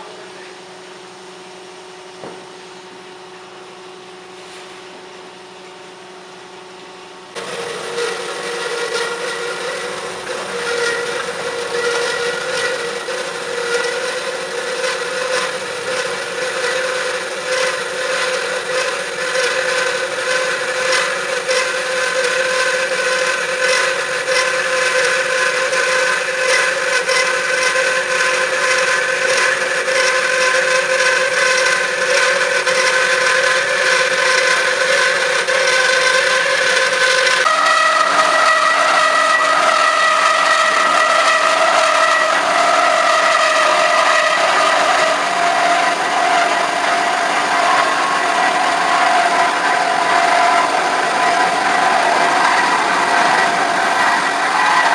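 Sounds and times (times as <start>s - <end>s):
band saw cutting metal: 7.3s - 54.9s.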